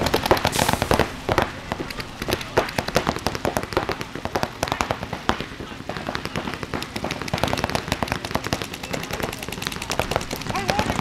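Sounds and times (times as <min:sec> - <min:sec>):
paintball guns firing: 0:00.0 - 0:11.0.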